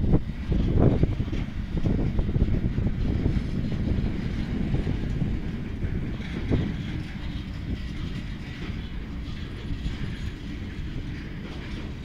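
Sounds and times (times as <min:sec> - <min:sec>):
train knocks: 0:00.0 - 0:12.0
train wheels rumbling on rails: 0:00.0 - 0:12.0.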